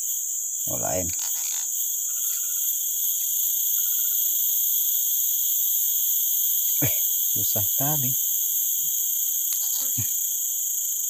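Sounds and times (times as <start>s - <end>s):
insect chorus: 0.0s - 11.0s.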